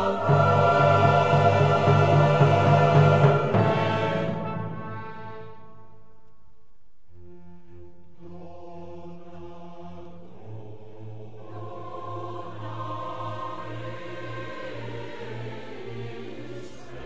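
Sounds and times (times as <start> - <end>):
slow music of held chords: 0.0 - 16.7.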